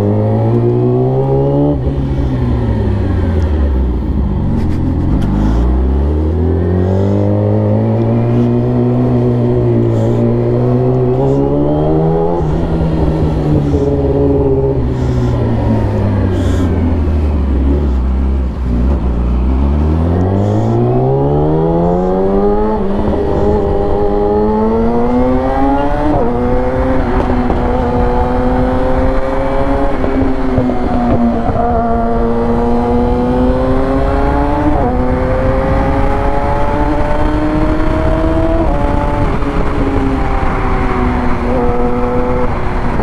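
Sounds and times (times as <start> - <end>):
motorcycle engine accelerating: 0.0 - 43.0
wind noise: 0.0 - 43.0.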